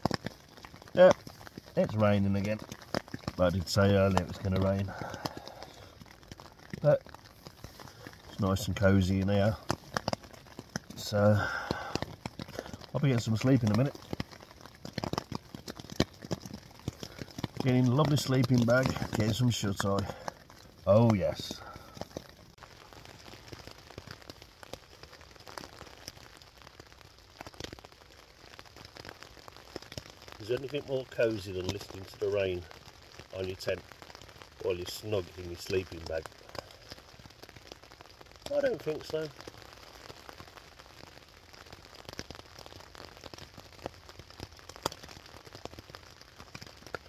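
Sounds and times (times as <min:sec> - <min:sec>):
faint steady hiss: 0:00.0 - 0:47.0
rain tapping on tent fabric: 0:00.0 - 0:47.0.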